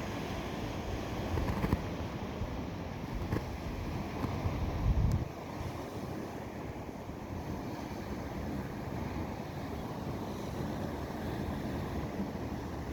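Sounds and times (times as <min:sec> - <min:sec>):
wind blowing across microphone: 0:00.0 - 0:12.9.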